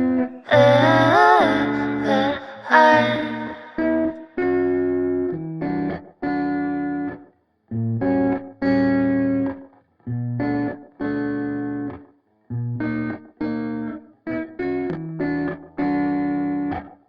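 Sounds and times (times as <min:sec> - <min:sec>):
guitar playing held chords: 0:00.0 - 0:17.0.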